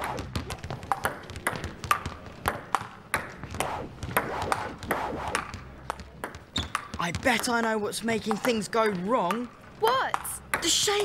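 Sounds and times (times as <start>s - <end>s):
balls bouncing: 0.0s - 11.0s.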